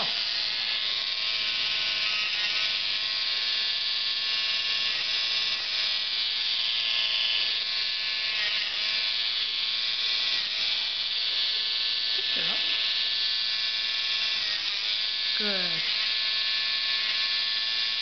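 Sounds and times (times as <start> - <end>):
rotary tool whining: 0.0 - 18.0.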